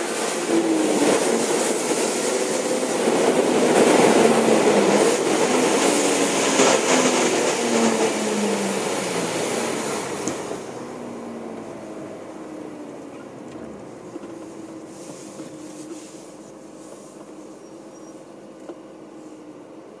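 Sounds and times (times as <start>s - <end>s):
car engine at low revs: 0.0s - 20.0s.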